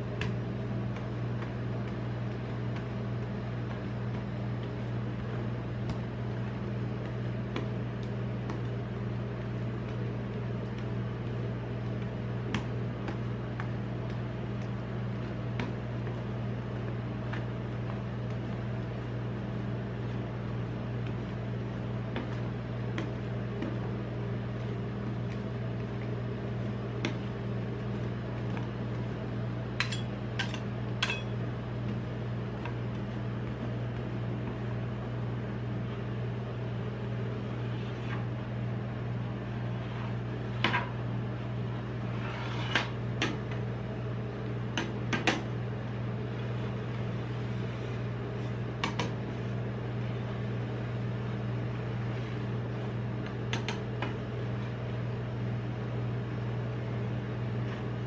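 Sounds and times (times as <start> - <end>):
refrigeration unit humming: 0.0 - 58.0.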